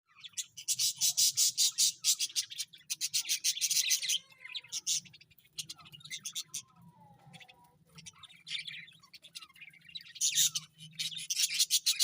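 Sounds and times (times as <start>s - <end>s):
budgerigars chirping and squawking: 0.1s - 12.0s.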